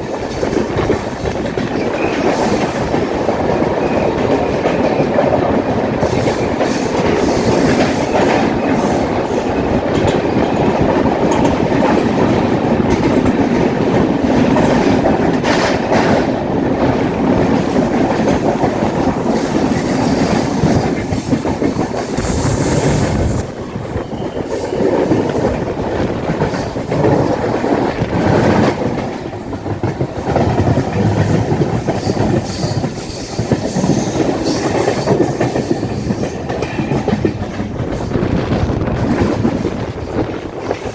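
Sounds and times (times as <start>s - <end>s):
train wheels rumbling on rails: 0.0s - 40.9s
wheels clacking over rail joints: 0.0s - 40.9s.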